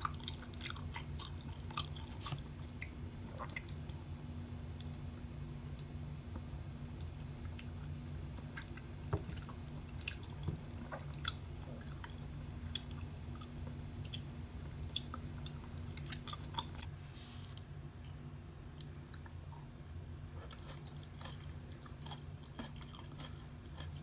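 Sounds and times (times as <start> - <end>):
person chewing food: 0.0 - 4.1, 4.8 - 24.0
steady low hum: 0.0 - 24.0.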